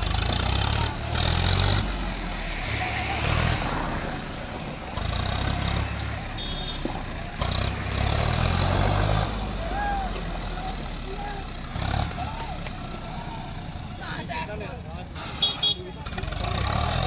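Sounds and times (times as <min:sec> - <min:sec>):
tractor diesel engine revving: 0:00.0 - 0:17.0.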